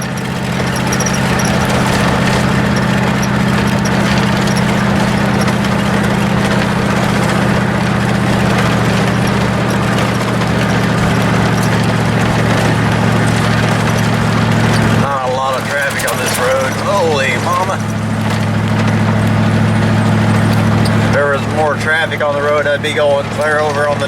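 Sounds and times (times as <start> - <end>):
mower engine running under load: 0.0 - 24.0.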